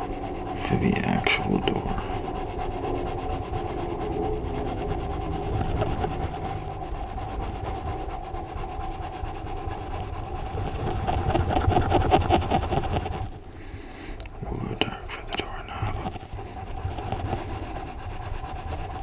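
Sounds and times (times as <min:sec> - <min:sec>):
pencil scribbling on paper: 0:00.0 - 0:13.5, 0:14.4 - 0:19.0
steady low hum: 0:00.0 - 0:19.0.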